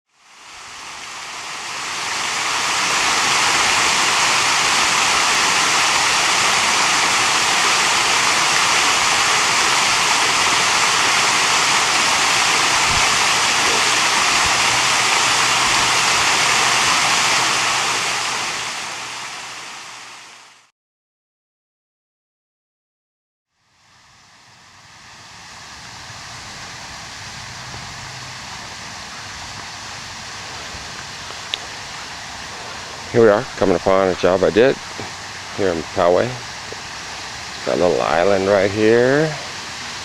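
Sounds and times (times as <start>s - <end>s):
waterfall rushing and splashing: 0.2s - 20.6s, 24.2s - 40.0s.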